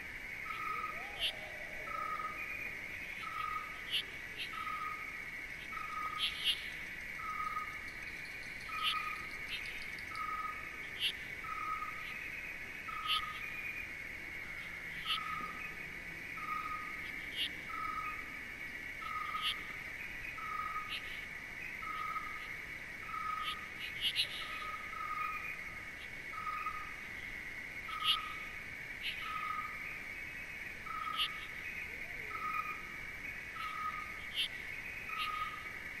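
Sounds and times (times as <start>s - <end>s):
steady high insect trill: 0.0s - 36.0s.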